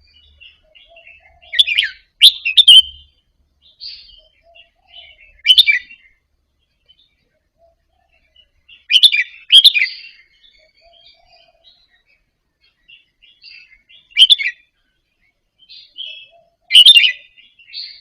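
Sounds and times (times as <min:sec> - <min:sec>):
bird singing sharp phrases: 0:00.0 - 0:18.0
quiet bird twittering: 0:00.0 - 0:18.0.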